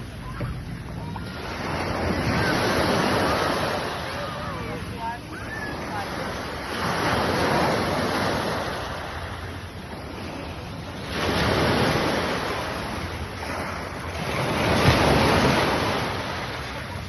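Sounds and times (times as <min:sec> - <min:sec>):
surf breaking on shore: 0:00.0 - 0:17.0.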